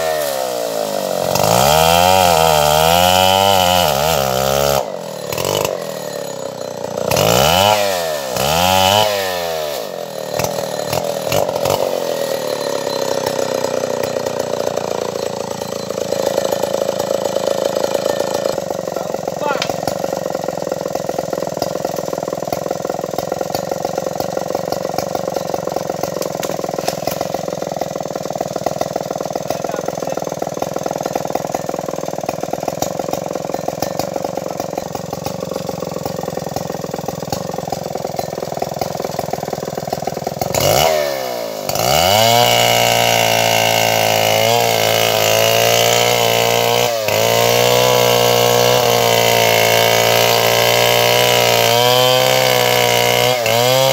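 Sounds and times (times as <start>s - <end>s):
chainsaw engine revving: 0.0s - 53.9s.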